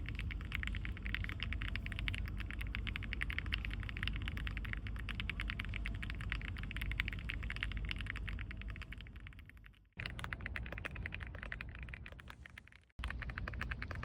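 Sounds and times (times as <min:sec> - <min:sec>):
low steady rumble: 0:00.0 - 0:14.0
mechanical keyboard typing: 0:00.0 - 0:14.0.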